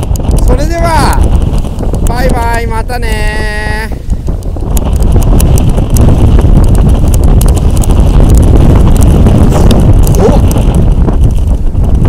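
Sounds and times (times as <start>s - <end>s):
scattered clicks: 0.0s - 12.0s
wind buffeting microphone: 0.0s - 12.0s.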